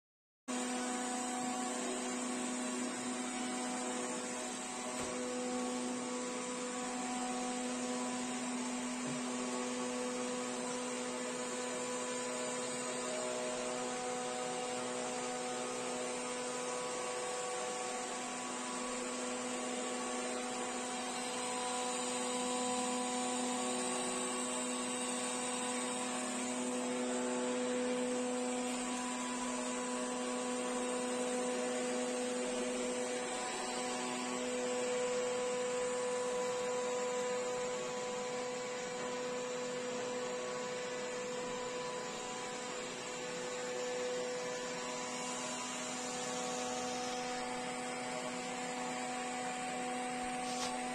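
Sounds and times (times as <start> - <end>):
robot vacuum whirring: 0.5 - 50.9.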